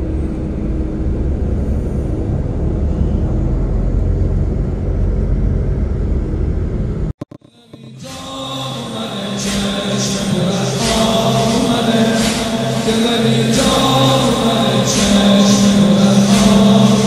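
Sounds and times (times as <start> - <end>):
bus engine and road rumble: 0.0 - 7.3, 8.0 - 17.0.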